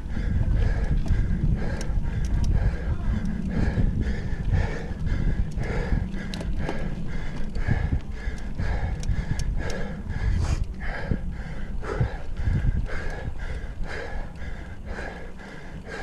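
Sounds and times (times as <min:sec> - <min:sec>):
low rumble of bike riding: 0:00.0 - 0:16.0
person panting hard: 0:00.0 - 0:16.0.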